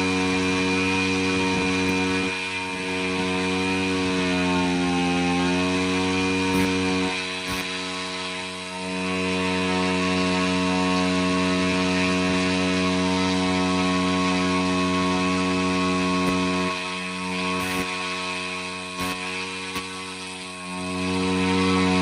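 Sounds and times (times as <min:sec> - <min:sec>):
mechanical drone of test rig: 0:00.0 - 0:22.0.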